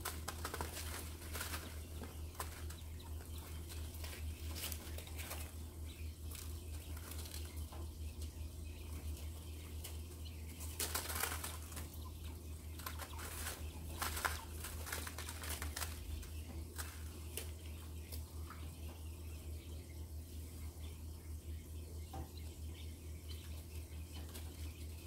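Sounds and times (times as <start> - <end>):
quails scratching in bedding: 0.0 - 21.0, 22.1 - 25.0
low steady hum: 0.0 - 25.0.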